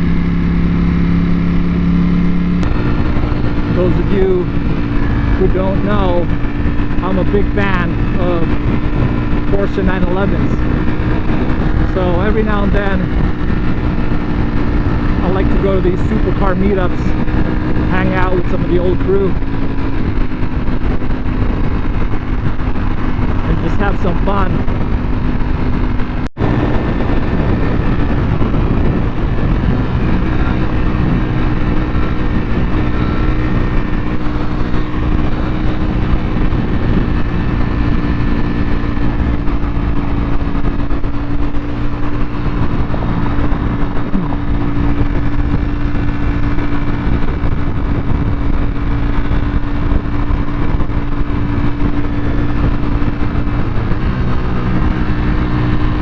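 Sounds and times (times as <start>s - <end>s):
motorcycle engine running: 0.0s - 56.0s
road noise rushing: 0.0s - 56.0s.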